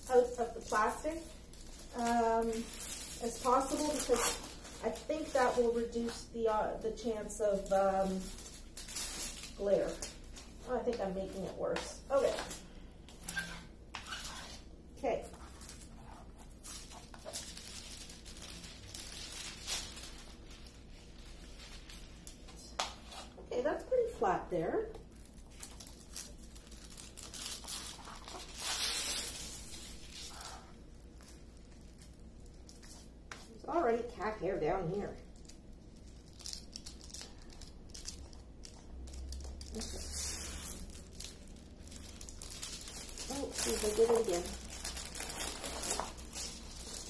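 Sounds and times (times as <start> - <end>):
plastic sheet crinkling swishes: 0.1 - 14.6, 15.3 - 22.4, 25.2 - 33.6, 35.3 - 47.0.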